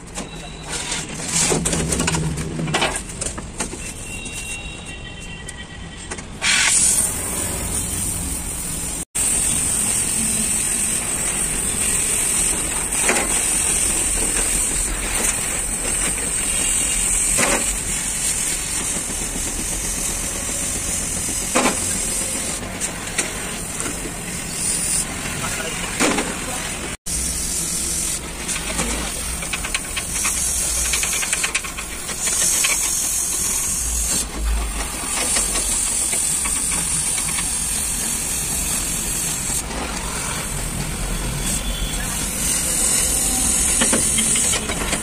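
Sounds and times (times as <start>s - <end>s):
cutting torch hissing: 6.4s - 25.7s, 26.6s - 45.0s.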